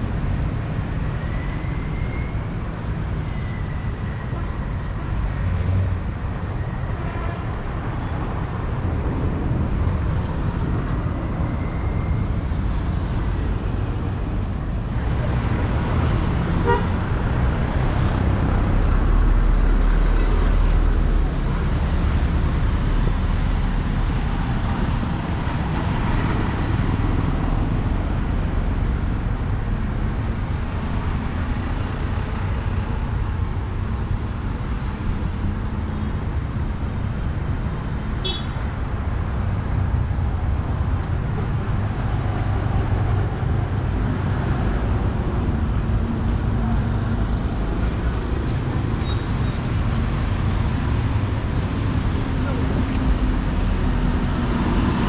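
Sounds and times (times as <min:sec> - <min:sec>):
passing cars: 0:00.0 - 0:55.0.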